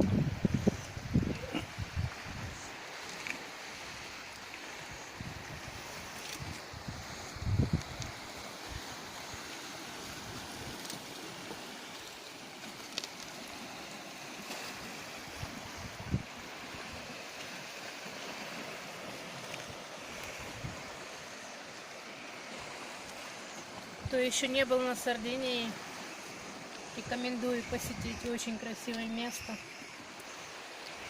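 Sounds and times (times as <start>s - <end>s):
calm sea washing on shore: 0.0s - 31.0s.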